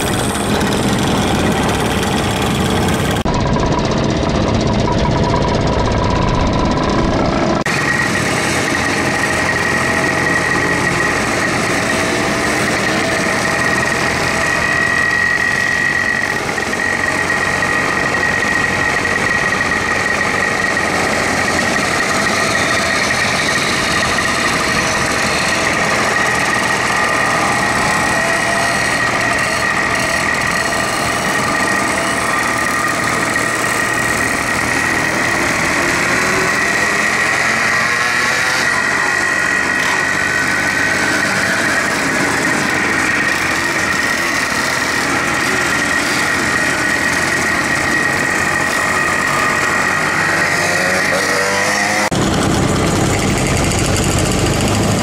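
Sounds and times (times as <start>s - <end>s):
moped engines running: 0.0s - 55.0s.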